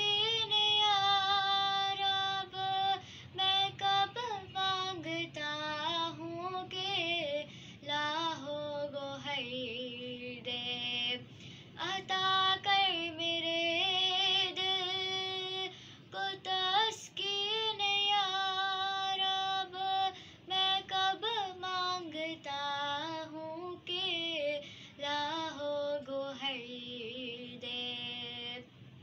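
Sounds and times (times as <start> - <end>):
girl singing with vibrato: 0.0 - 28.7.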